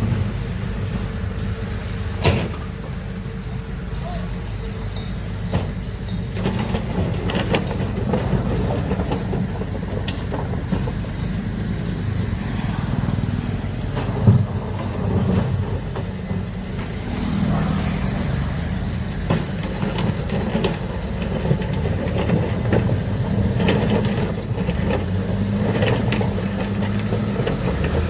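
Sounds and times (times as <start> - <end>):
excavator diesel engine running: 0.0 - 28.0
metallic clanks and knocks: 0.0 - 28.0.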